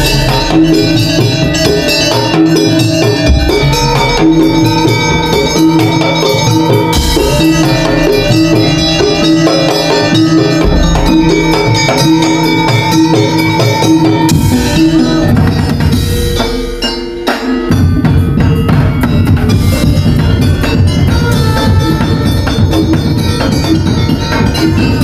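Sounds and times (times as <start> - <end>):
percussion ensemble playing: 0.0 - 25.0.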